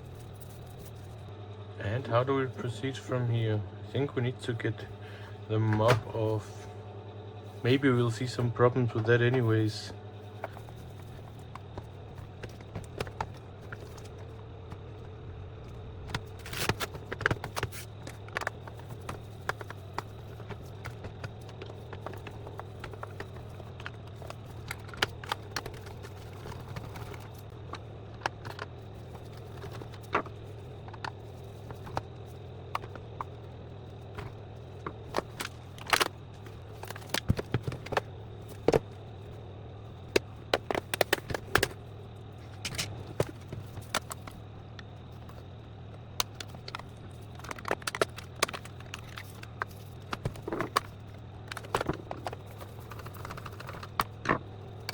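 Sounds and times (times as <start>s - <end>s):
steady low hum: 0.0s - 54.9s
plastic parts clicking and scraping: 5.6s - 6.6s, 7.7s - 54.9s.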